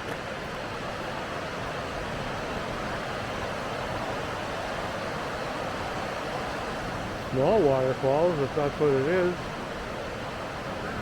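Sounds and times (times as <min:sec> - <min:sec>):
river water rushing over waterfalls: 0:00.0 - 0:11.0.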